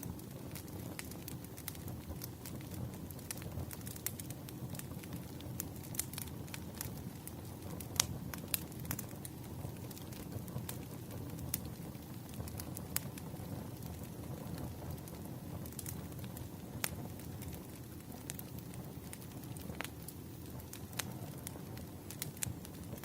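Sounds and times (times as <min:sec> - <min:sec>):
firewood crackling and popping: 0:00.0 - 0:23.0
low rumble of flame: 0:00.0 - 0:23.0.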